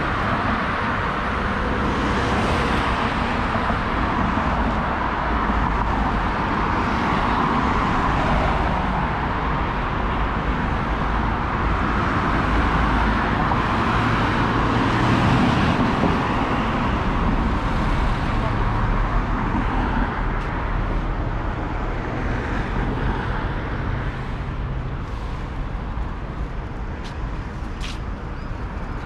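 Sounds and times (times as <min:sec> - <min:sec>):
road noise hiss: 0:00.0 - 0:29.0
road noise low rumble: 0:00.0 - 0:29.0.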